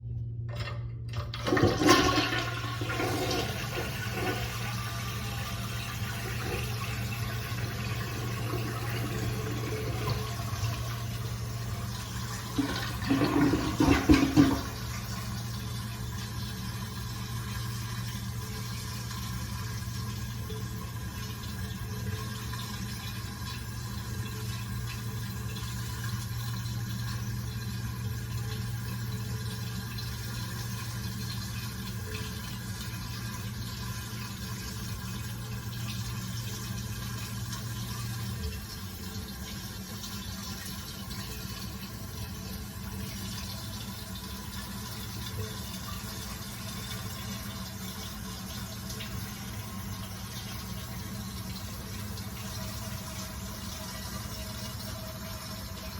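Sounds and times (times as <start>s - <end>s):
water running into toilet tank: 0.5s - 55.9s.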